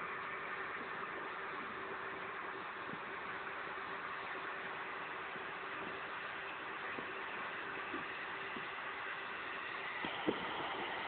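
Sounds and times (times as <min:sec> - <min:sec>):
wind hiss on microphone: 0:00.0 - 0:11.0.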